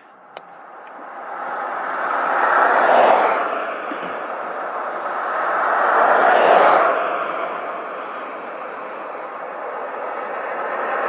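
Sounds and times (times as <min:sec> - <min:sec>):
vehicles passing with tyre noise: 0:00.0 - 0:11.0.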